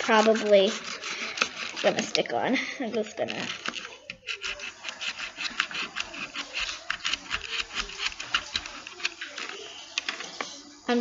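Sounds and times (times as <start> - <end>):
fingertips scratching chalk pastels: 0.0 - 10.7.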